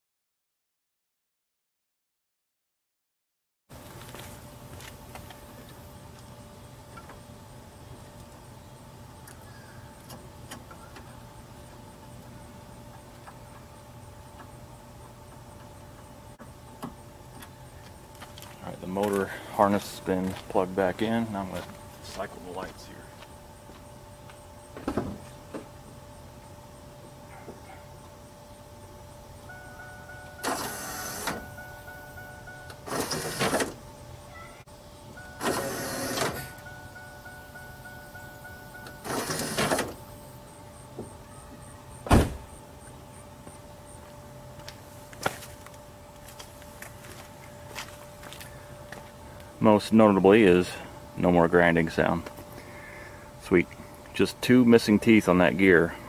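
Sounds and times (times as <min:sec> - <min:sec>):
faint steady hum: 0:03.8 - 0:56.0
headlight motors running: 0:04.0 - 0:54.3.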